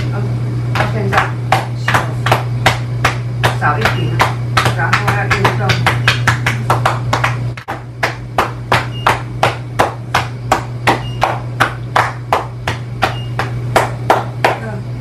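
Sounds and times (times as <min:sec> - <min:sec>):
hand patting a back: 0:00.8 - 0:14.6.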